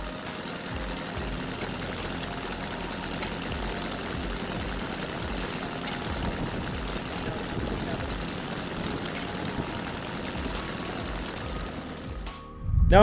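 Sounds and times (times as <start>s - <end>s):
model radial engine running: 0.0s - 12.5s.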